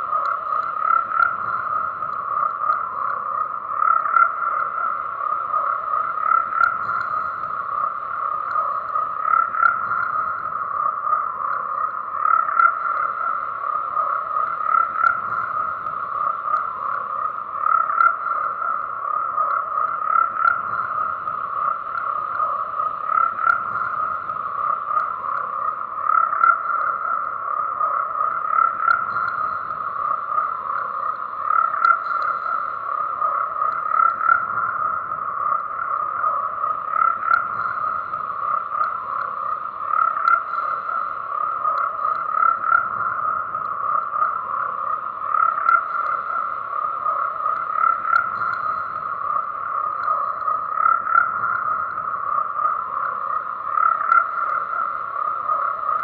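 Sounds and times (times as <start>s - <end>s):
chorus of frogs croaking: 0.0s - 56.0s.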